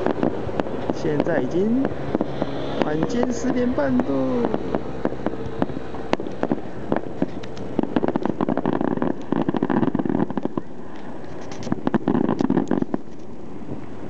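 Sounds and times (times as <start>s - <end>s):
fireworks popping and crackling: 0.0s - 14.0s.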